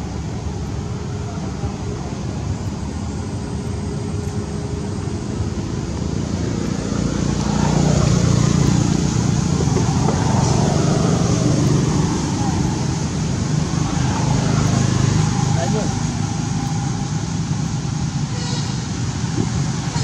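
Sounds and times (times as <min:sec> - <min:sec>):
road traffic rumble: 0:00.0 - 0:20.0
vehicle passing near: 0:00.0 - 0:20.0.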